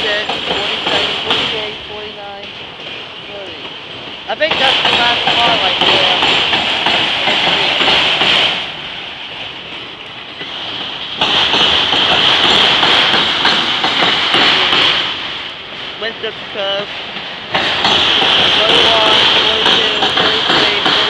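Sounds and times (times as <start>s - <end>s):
train wheels rushing on rails: 0.0s - 21.0s.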